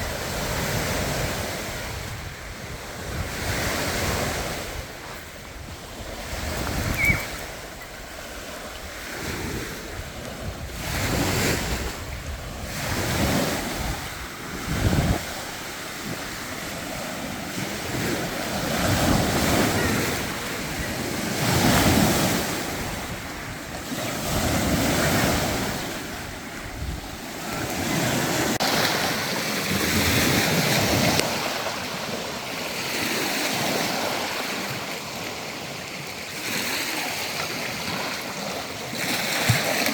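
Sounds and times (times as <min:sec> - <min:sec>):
wind buffeting microphone: 0:00.0 - 0:32.2
small waves washing on shore: 0:00.0 - 0:39.9.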